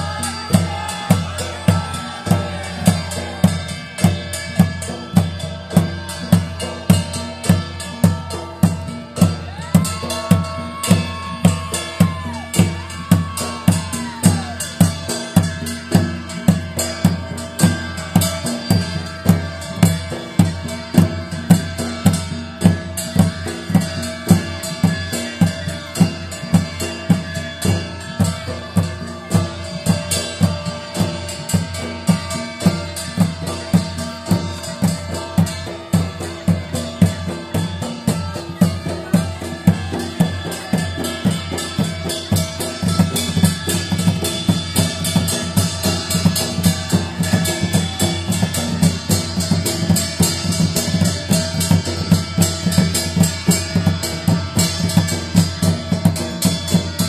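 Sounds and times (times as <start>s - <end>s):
drums beating a steady rhythm: 0.0s - 57.0s.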